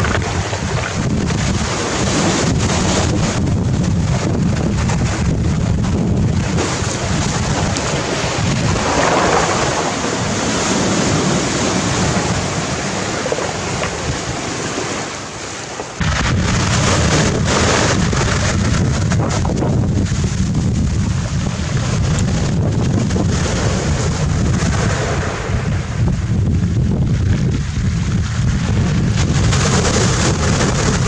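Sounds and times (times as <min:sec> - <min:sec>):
waves washing over pebbles: 0:00.0 - 0:31.0
wind buffeting microphone: 0:00.0 - 0:31.0.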